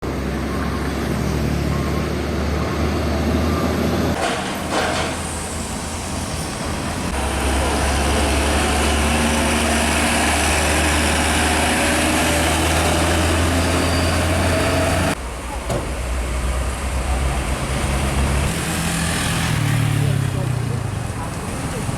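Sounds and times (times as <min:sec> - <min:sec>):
heavy truck diesel engines: 0:00.0 - 0:21.9.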